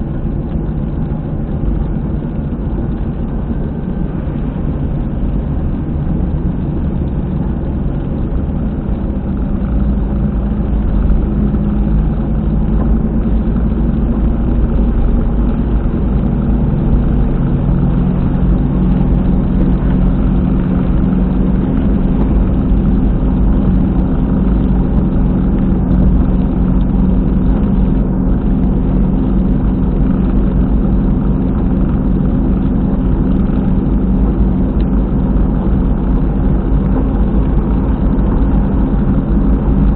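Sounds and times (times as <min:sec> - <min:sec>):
car road noise inside cabin: 0:00.0 - 0:39.9
rumbling drone from wheel: 0:00.0 - 0:39.9.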